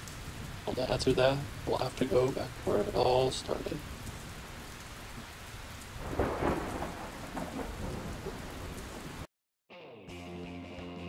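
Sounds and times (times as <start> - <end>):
steady rain: 0.0 - 9.3
thunder rumbling: 0.0 - 9.3.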